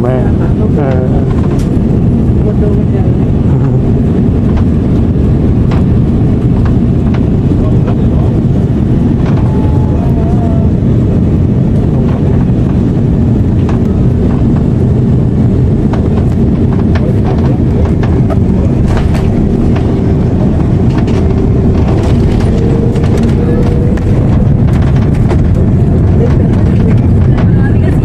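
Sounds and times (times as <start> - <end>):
aircraft cabin rumble: 0.0 - 28.0.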